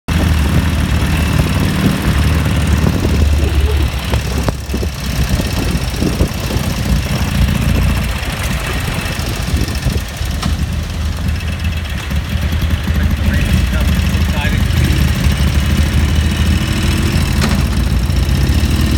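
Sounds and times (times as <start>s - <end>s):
motorcycle engine throbbing: 0.1s - 18.9s.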